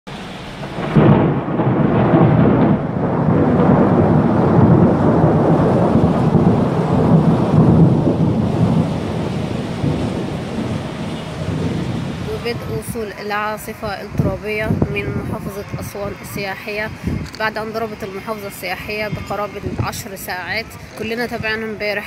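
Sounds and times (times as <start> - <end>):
thunder rumbling: 0.1 - 22.0.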